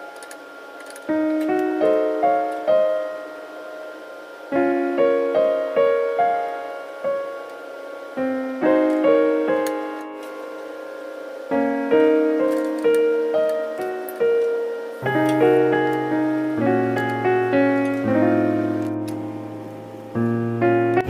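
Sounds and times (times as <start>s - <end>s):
piano-like keyboard melody: 0.0s - 21.0s.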